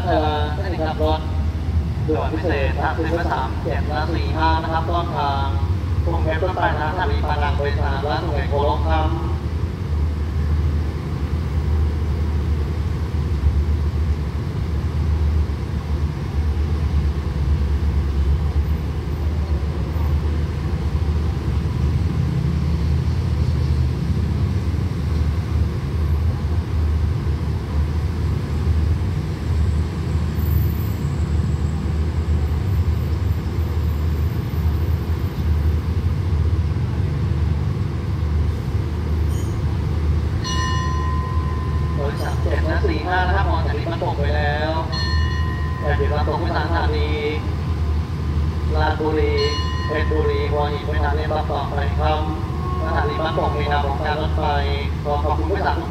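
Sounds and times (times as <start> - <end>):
diesel train idling rumble: 0.0 - 55.9.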